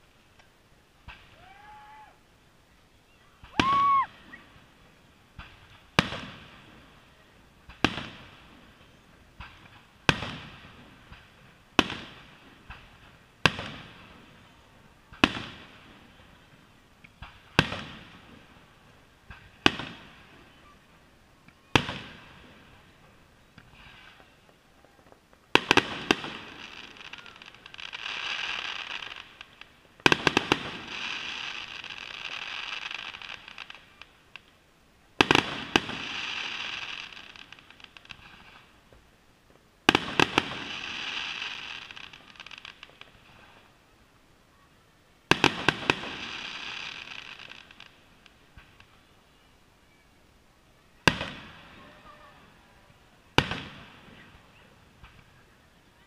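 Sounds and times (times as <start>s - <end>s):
fireworks crackling: 0.0s - 56.0s
fireworks bursting with echoing bangs: 1.0s - 2.0s, 3.4s - 43.8s, 45.2s - 49.2s, 51.0s - 55.5s.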